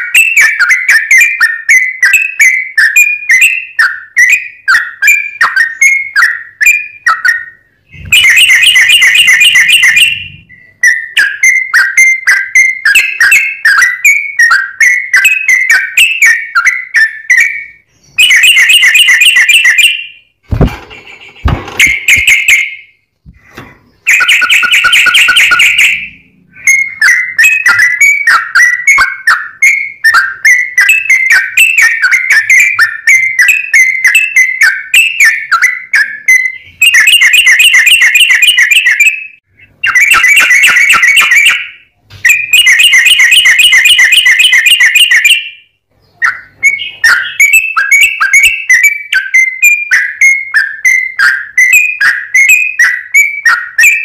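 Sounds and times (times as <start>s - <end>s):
bird singing chattering whistles: 0.0s - 22.9s, 23.9s - 54.0s.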